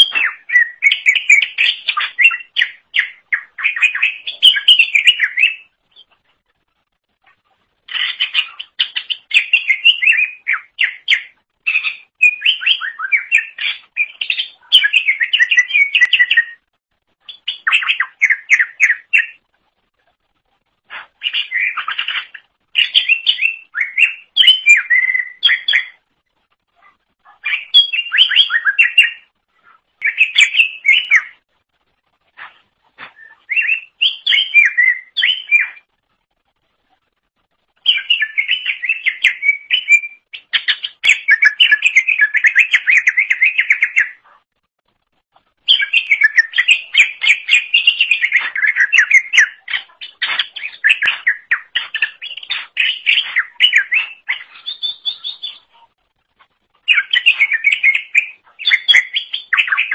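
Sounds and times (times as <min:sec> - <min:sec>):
bird singing chirps and whistles: 0:00.0 - 0:06.2, 0:07.9 - 0:19.4, 0:21.2 - 0:26.0, 0:27.4 - 0:29.3, 0:30.0 - 0:31.4, 0:33.0 - 0:35.9, 0:37.8 - 0:44.2, 0:45.6 - 0:55.8, 0:56.9 - 0:59.9.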